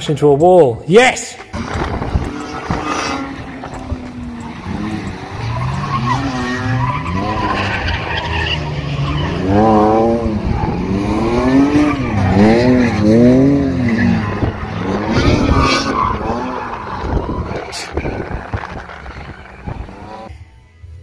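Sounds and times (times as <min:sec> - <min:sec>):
tyres skidding: 0:01.4 - 0:20.3
car engine revving: 0:01.5 - 0:20.4.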